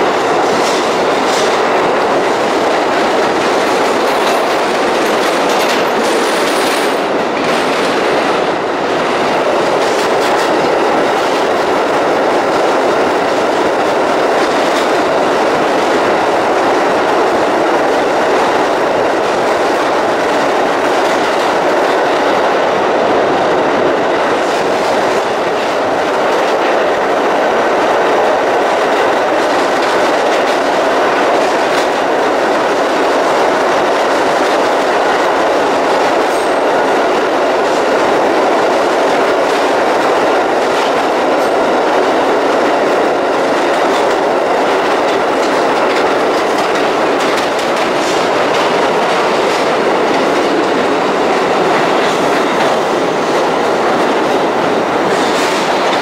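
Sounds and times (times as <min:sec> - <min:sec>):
subway wheels rumbling on rail: 0:00.0 - 0:56.0.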